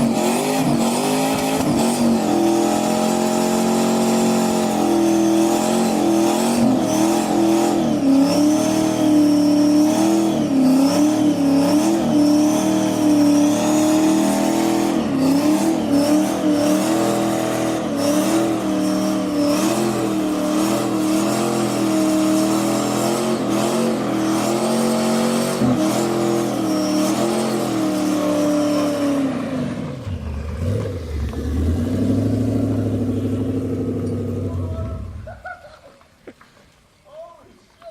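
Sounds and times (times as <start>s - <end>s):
car engine at high revs: 0.0s - 35.1s.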